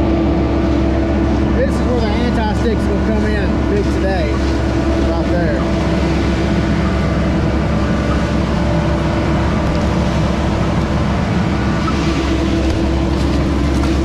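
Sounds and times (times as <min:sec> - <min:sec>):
diesel engine running under load: 0:00.0 - 0:14.0
hydraulic hum: 0:00.0 - 0:14.0.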